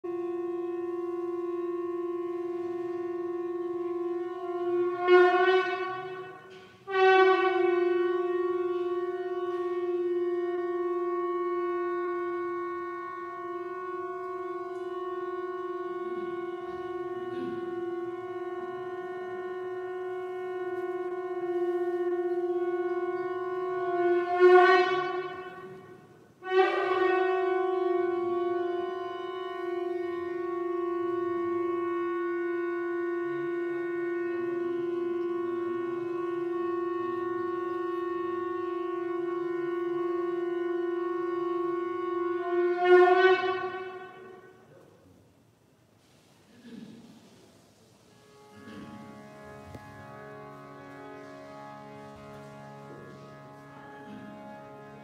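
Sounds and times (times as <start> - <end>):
conch shell blasts: 0.1 - 45.0, 48.1 - 55.0.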